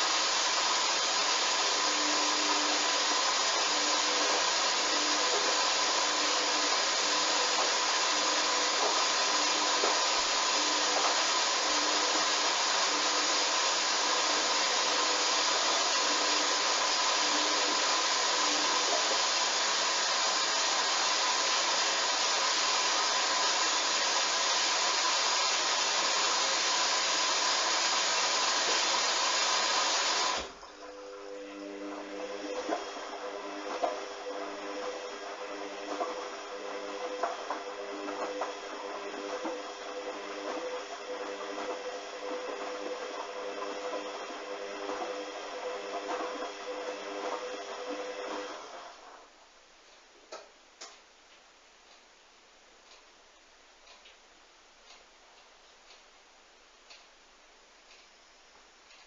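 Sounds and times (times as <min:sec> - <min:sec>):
washing machine rushing noise: 0:00.0 - 0:49.3.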